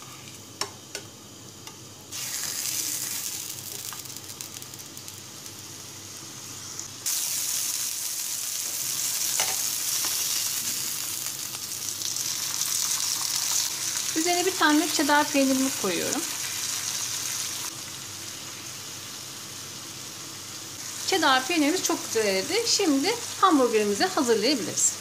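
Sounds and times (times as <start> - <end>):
meat sizzling in pan: 0.0 - 25.0.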